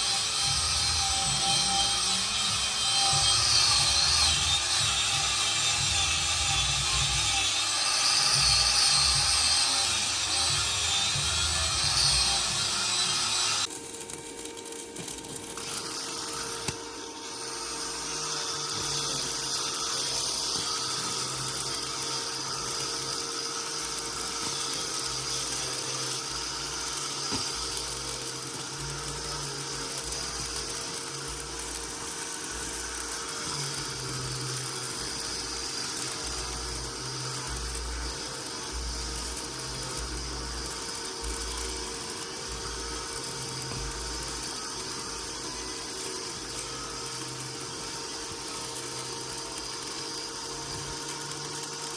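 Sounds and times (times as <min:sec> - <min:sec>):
power tool high whine: 0:00.0 - 0:51.9.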